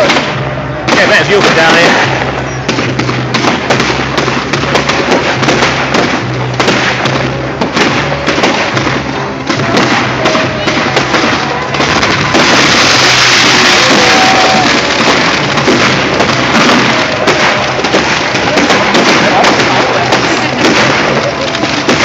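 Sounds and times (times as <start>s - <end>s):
fireworks cracking and banging: 0.0s - 22.0s
fireworks hissing: 0.0s - 22.0s
music playing: 0.0s - 22.0s.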